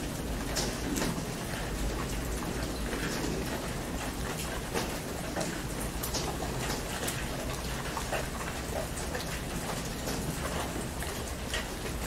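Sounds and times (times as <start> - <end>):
heavy rain on a tent: 0.0 - 12.0.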